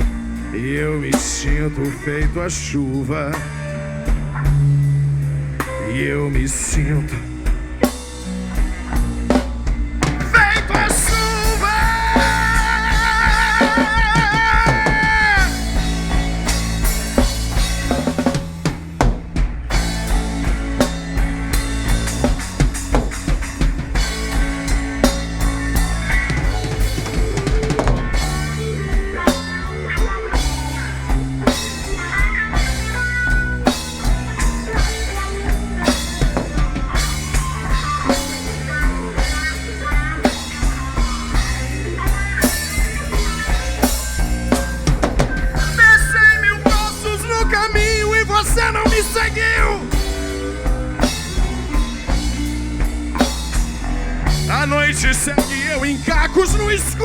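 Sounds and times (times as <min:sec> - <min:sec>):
bass line: 0:00.0 - 0:57.0
drum kit beat: 0:00.0 - 0:57.0
lead guitar bending: 0:00.0 - 0:57.0.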